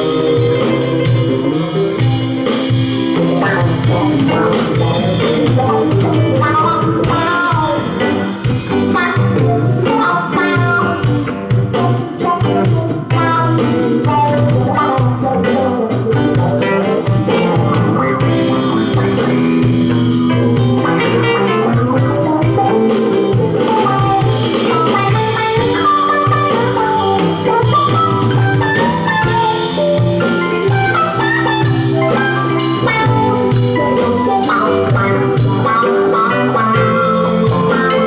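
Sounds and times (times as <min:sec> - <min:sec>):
bass guitar: 0:00.0 - 0:38.0
drum kit: 0:00.0 - 0:38.0
electric guitars: 0:00.0 - 0:38.0
keyboards: 0:00.0 - 0:38.0.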